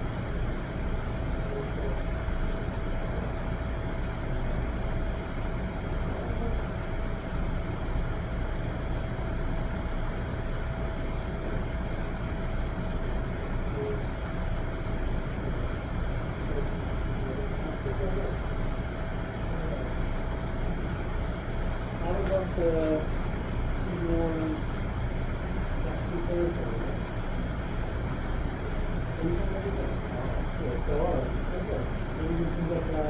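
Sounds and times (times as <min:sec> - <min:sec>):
background rumble and hiss: 0:00.0 - 0:33.0
faint constant whine: 0:00.0 - 0:33.0.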